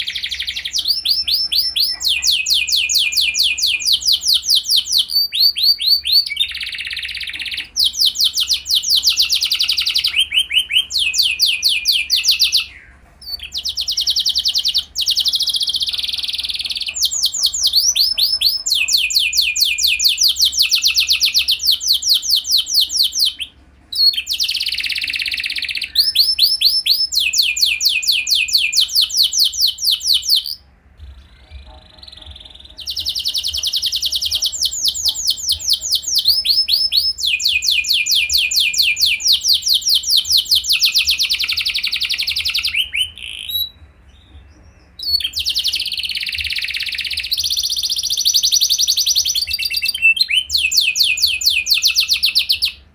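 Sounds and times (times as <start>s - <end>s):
canary singing fast trills: 0.0s - 52.9s.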